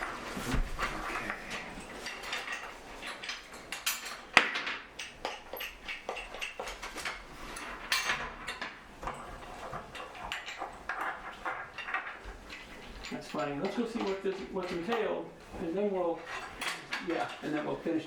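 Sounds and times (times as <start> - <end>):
loom parts clicking and knocking: 0.0 - 18.0.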